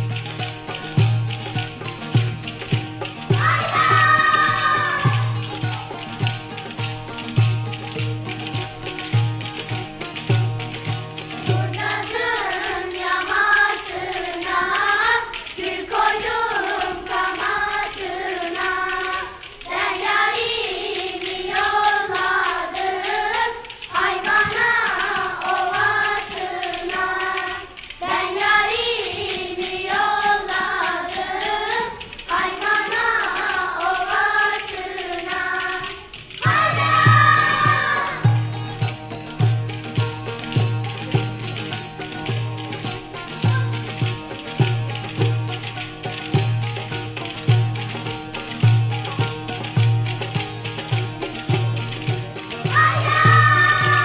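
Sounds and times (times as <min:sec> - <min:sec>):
group singing folk song: 0:00.0 - 0:54.0
saz accompaniment: 0:00.0 - 0:54.0.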